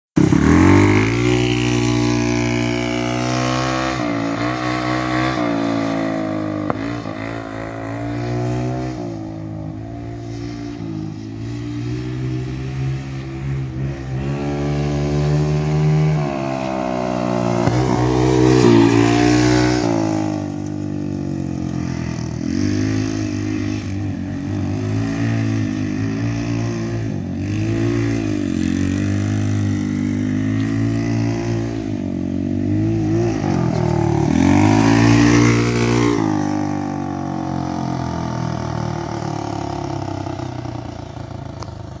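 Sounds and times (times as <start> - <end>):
go-kart engine revving: 0.2 - 42.0.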